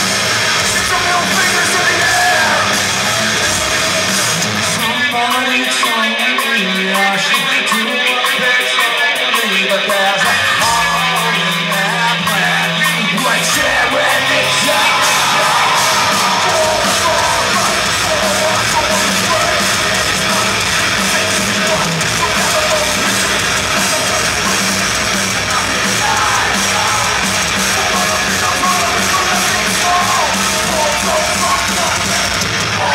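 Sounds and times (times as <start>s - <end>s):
shouted vocals: 0.0s - 5.0s, 10.1s - 32.9s
heavy metal band playing: 0.0s - 32.9s.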